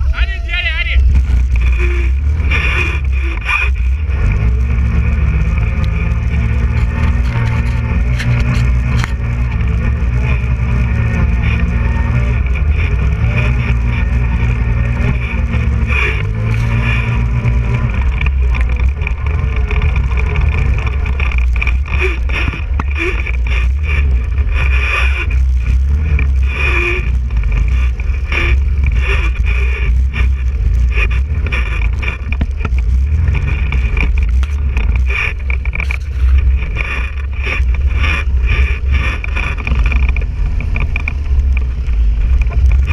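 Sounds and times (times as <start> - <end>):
quad bike engine running: 0.0 - 42.9
knocks and rattles over bumps: 1.0 - 42.9.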